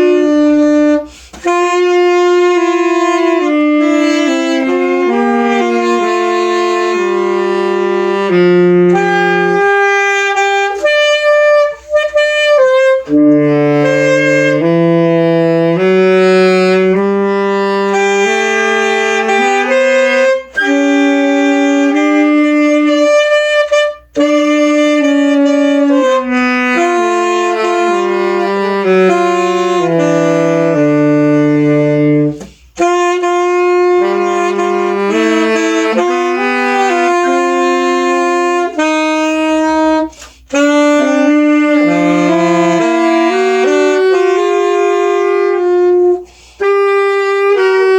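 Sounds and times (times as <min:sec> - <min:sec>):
solo saxophone melody: 0:00.0 - 0:47.9.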